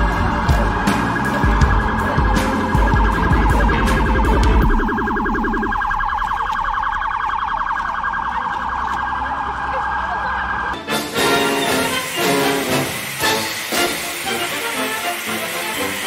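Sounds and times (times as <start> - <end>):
warbling siren: 0.0 - 16.0.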